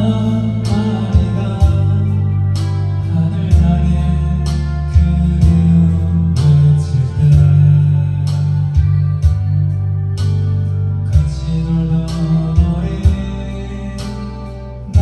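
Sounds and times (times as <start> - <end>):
acoustic guitar strumming: 0.0 - 15.0
bass line: 0.0 - 15.0.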